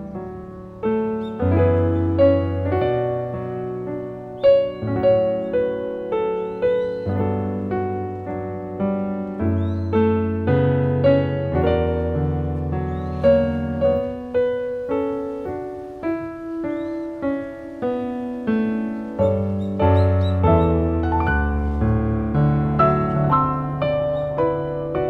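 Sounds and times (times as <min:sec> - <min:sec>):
slow gentle piano melody: 0:00.0 - 0:25.0.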